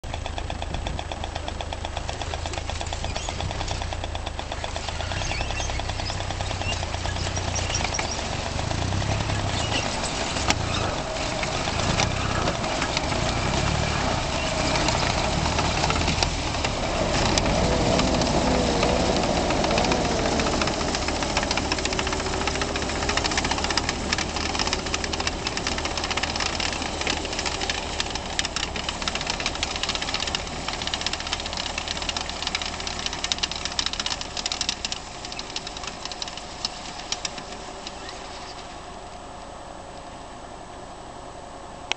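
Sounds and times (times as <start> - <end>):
tracks clattering: 0.0 - 38.8
truck engines running: 0.0 - 41.9.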